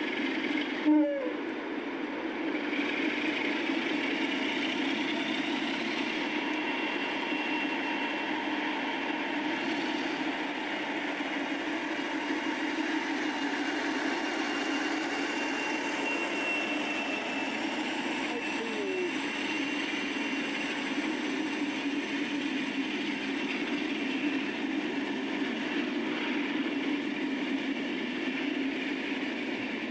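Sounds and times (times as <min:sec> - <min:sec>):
diesel locomotive engine running: 0:00.0 - 0:29.9
faint high whine: 0:00.0 - 0:29.9.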